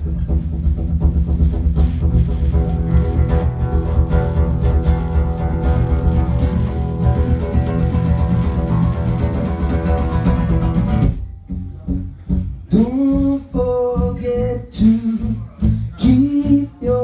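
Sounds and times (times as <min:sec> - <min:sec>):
strummed guitar with bass: 0:00.0 - 0:17.0.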